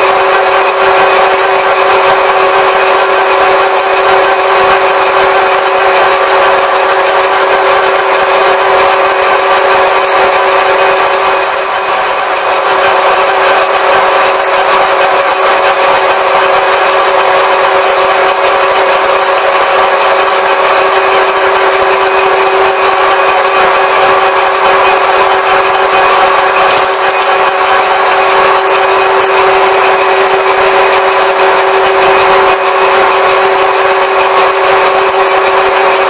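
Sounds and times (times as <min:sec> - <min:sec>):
metal lathe gear whine: 0:00.0 - 0:36.0.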